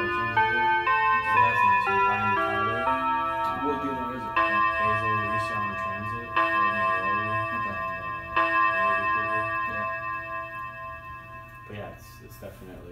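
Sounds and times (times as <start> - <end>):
chime clock striking: 0.0 - 12.9.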